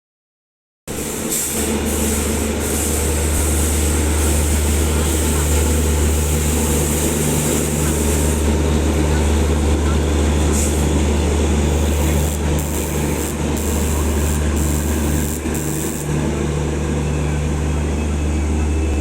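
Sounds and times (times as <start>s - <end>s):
train running: 0.9s - 19.0s.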